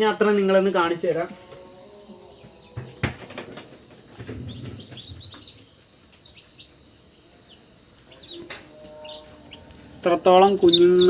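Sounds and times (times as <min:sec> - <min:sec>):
chicks peeping: 0:00.0 - 0:11.0
steady pulsing high chirping: 0:00.0 - 0:11.0.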